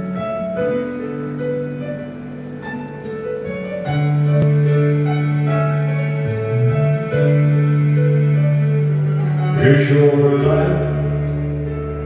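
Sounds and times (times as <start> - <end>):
keyboard chords: 0.0 - 12.0
sustained bass notes: 0.0 - 12.0.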